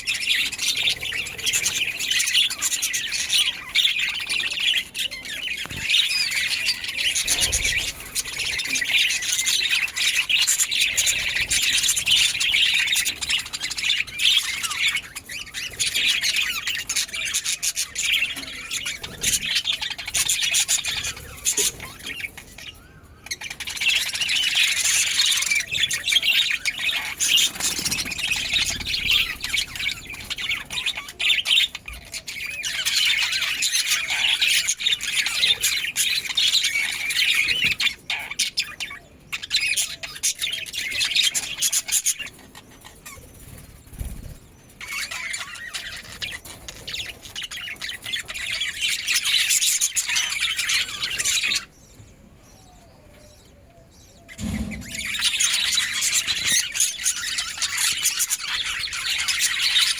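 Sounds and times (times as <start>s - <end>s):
budgerigars chattering: 0.0s - 53.4s, 54.0s - 59.9s.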